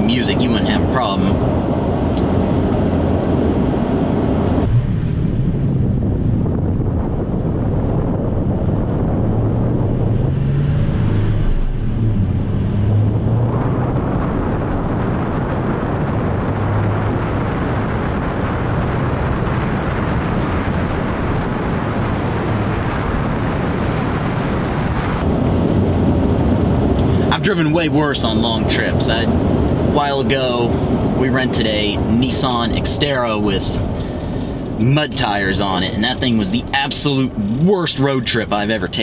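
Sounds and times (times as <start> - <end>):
pickup engine hum: 0.0 - 39.0
wind and road noise: 0.0 - 39.0.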